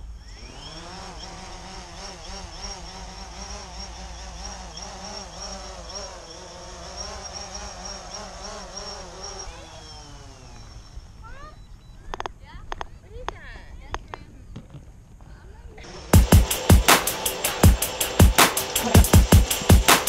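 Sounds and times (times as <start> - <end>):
drone motors buzzing: 0.0 - 12.3, 15.8 - 20.0.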